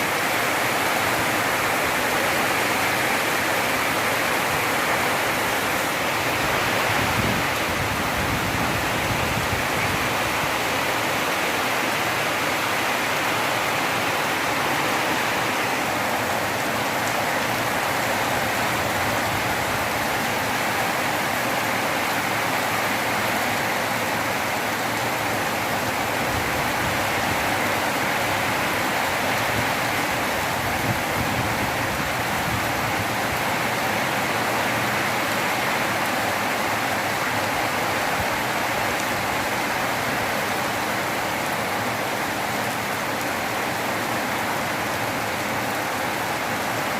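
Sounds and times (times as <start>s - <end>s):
steady rain: 0.0s - 46.9s.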